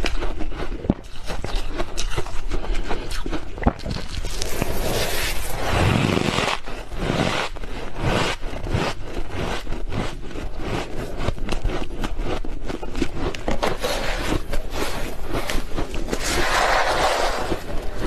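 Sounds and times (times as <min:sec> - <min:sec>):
frost crunching: 0:01.0 - 0:18.0.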